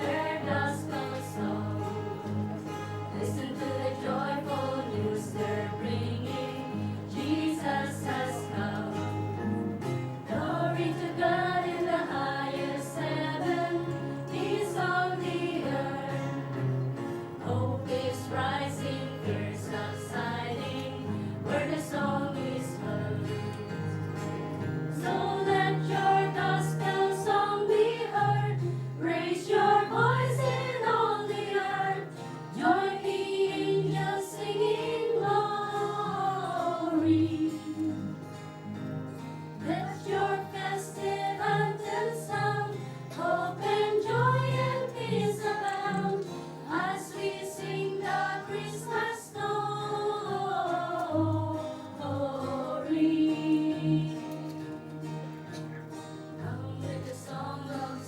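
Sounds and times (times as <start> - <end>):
group singing: 0.0 - 38.3, 39.6 - 58.0
acoustic guitars strumming: 0.0 - 58.0.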